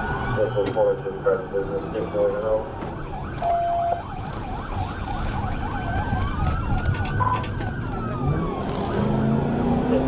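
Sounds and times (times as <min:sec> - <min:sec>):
second siren slow wail: 0:00.0 - 0:09.9
engine and road noise: 0:00.0 - 0:10.0.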